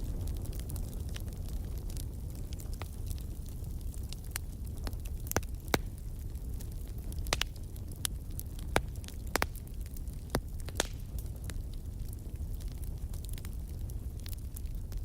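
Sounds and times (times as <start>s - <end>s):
burning wood crackling: 0.0s - 15.0s
fire rumbling: 0.0s - 15.0s.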